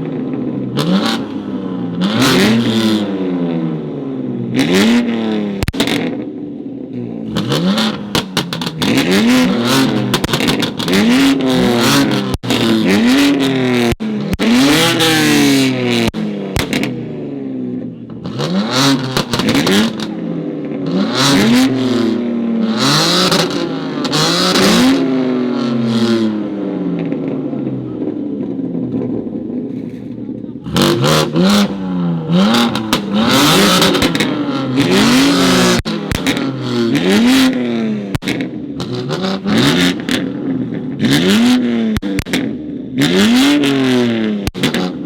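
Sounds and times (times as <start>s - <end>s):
sports car engine revving: 0.0s - 6.3s, 6.9s - 45.0s
exhaust popping and crackling: 4.6s - 6.3s, 7.0s - 17.2s, 17.8s - 45.0s.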